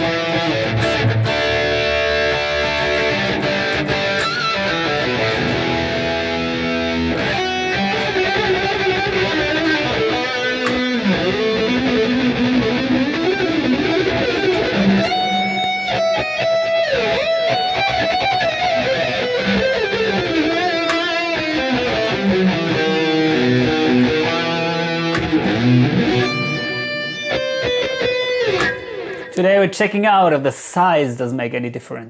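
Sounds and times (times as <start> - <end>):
electric guitar lead melody: 0.0 - 29.4
chordal guitar backing: 0.0 - 30.3.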